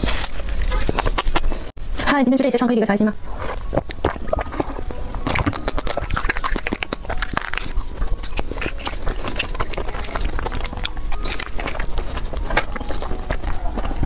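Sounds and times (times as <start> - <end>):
chewing and crunching food: 0.0 - 1.7, 3.2 - 14.0.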